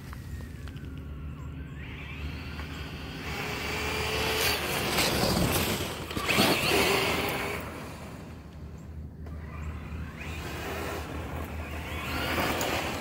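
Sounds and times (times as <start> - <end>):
electric motor whine: 0.0 - 8.3, 9.1 - 13.0
tyres on gravel: 0.0 - 13.0.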